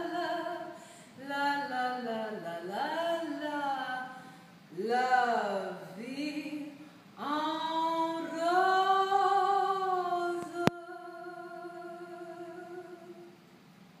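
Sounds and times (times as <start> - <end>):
woman singing long held note: 0.0 - 4.2, 4.8 - 13.3.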